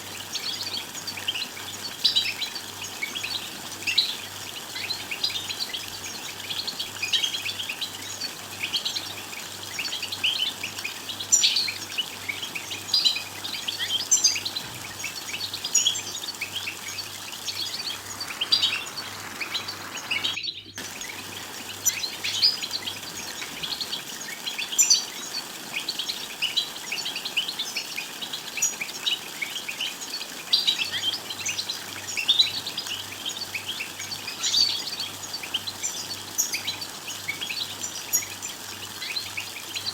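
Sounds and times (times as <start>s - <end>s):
finches twittering and singing: 0.2s - 39.9s.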